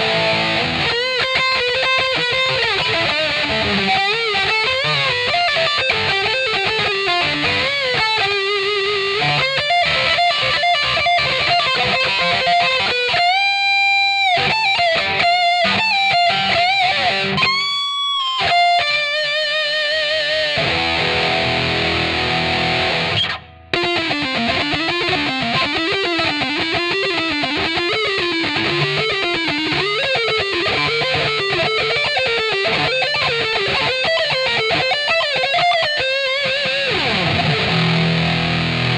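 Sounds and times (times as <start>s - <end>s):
distorted electric guitar solo: 0.0s - 38.9s.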